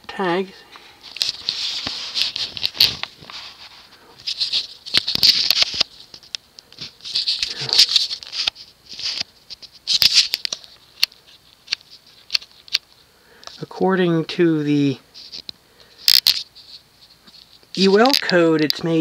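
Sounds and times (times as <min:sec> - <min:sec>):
scratchy rustling and scraping: 0:00.8 - 0:12.9, 0:15.1 - 0:19.0.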